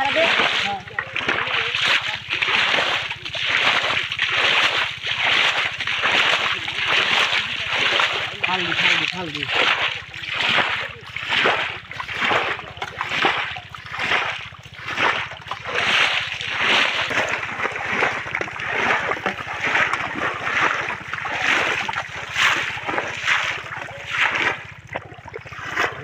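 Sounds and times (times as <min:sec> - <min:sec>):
muddy water splashing: 0:00.0 - 0:26.0.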